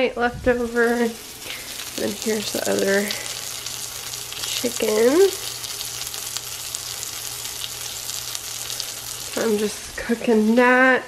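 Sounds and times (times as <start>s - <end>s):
oil popping: 0.4s - 10.4s
meat sizzling in a frying pan: 0.5s - 10.9s.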